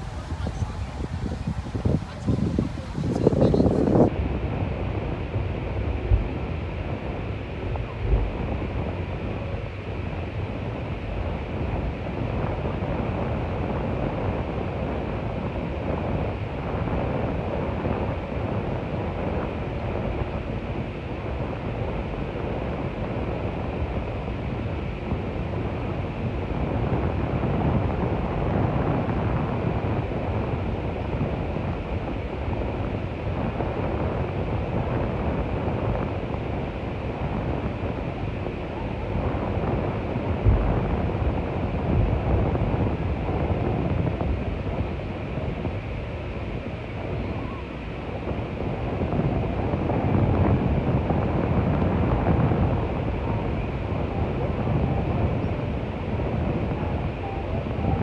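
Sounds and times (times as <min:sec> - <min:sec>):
ocean surf on sandy beach: 0:00.0 - 0:58.0
wind buffeting microphone: 0:00.0 - 0:58.0.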